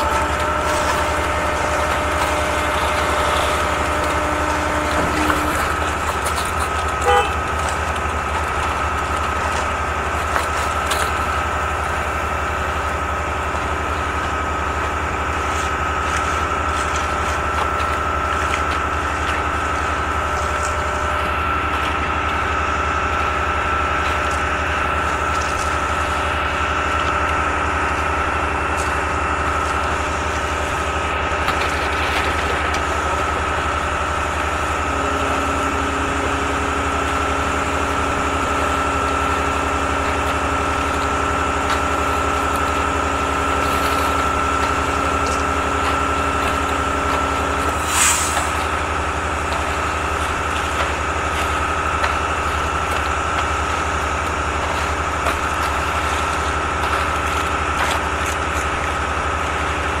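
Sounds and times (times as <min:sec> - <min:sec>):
engine running steadily: 0:00.0 - 1:00.0.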